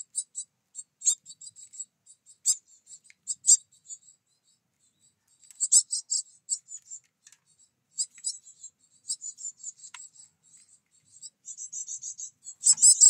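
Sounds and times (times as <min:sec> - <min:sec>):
great tits calling: 0:00.1 - 0:13.0.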